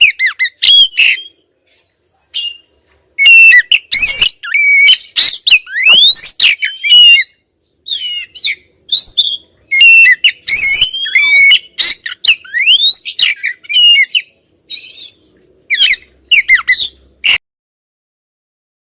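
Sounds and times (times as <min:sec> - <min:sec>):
bird singing whistled phrases: 0:00.0 - 0:01.4, 0:02.3 - 0:17.4.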